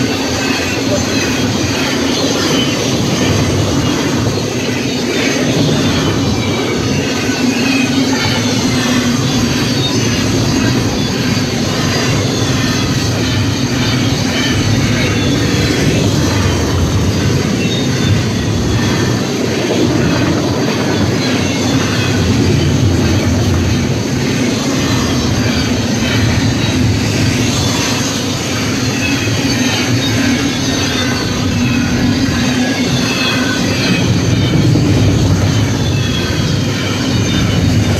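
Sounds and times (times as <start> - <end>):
freight train passing: 0.0 - 37.9.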